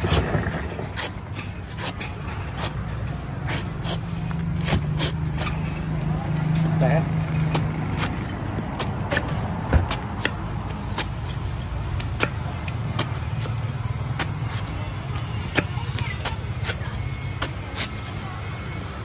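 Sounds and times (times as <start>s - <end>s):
knife chopping coconut husk: 0.0s - 6.1s, 6.7s - 18.8s.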